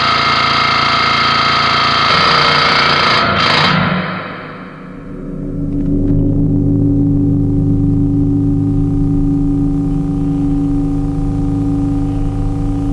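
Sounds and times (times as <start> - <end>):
steady drone tones: 0.0 - 12.9
low hum: 2.1 - 12.9.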